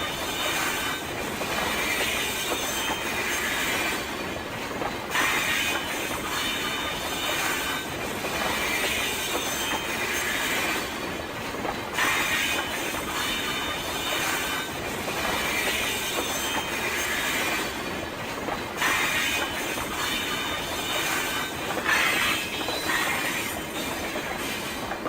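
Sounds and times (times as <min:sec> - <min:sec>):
train rolling on rails: 0:00.0 - 0:25.0.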